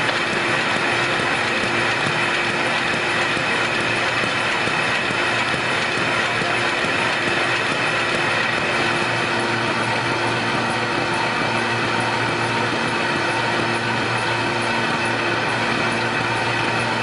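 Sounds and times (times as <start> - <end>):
mail processing machine whirring: 0.0 - 17.0.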